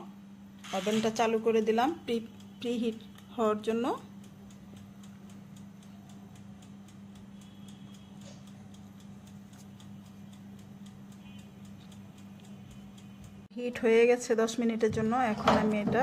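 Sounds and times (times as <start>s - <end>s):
steady low hum: 0.0s - 16.0s
oven timer ticking fast: 0.4s - 16.0s.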